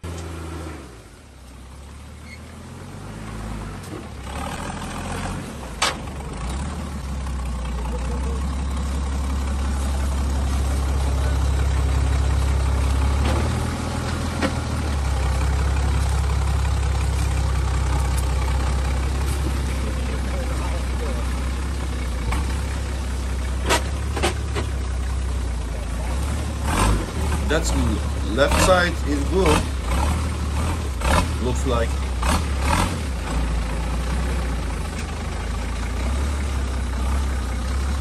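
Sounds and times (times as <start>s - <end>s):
off-road vehicle engine droning: 0.0s - 38.0s.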